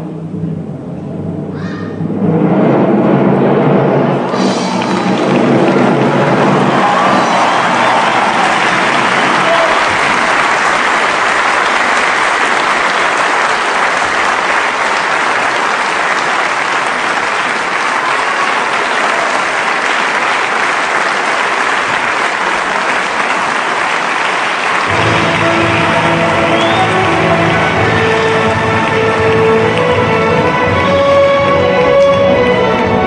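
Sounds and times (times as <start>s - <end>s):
large crowd applauding: 4.3s - 33.0s.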